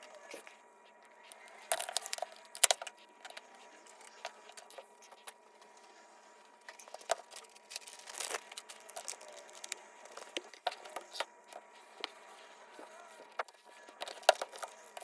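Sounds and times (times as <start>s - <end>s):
small tools clicking and tapping: 0.0s - 5.4s, 6.6s - 12.2s, 13.3s - 15.0s.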